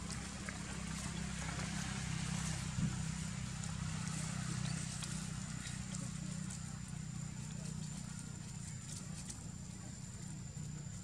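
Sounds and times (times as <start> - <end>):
faint clicks and rustles: 0.0 - 11.0.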